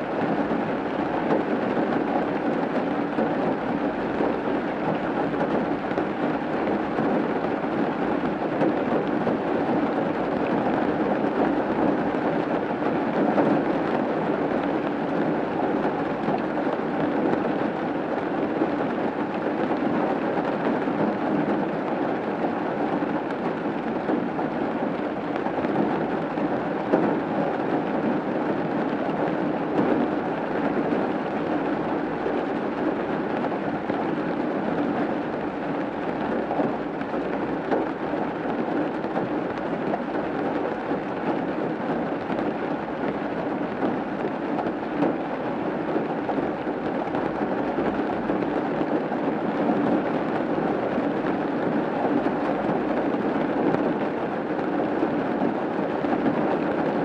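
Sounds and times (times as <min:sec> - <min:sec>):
rain drumming on a roof: 0:00.0 - 0:57.0.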